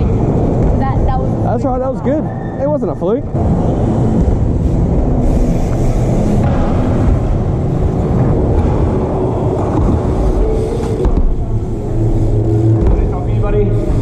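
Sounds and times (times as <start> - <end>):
bike tyres rumbling on wooden ramps: 0.0 - 1.4, 3.2 - 14.0.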